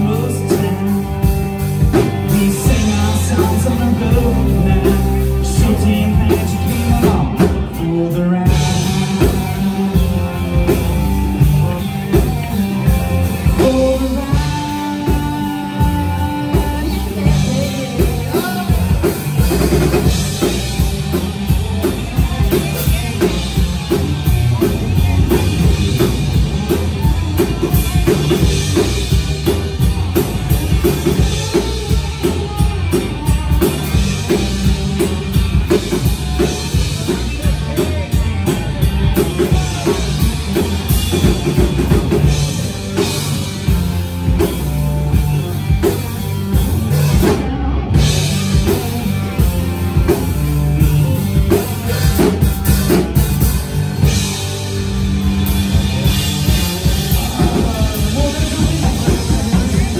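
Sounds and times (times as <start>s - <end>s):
live rock band playing: 0.0s - 59.9s
loud drum beat: 0.0s - 59.9s.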